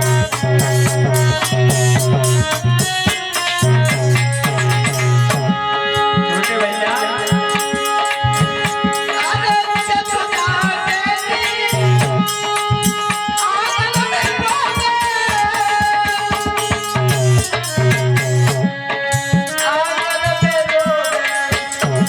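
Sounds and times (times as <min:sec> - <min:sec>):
devotional folk music: 0:00.0 - 0:22.0
hand drums beating: 0:00.0 - 0:22.0.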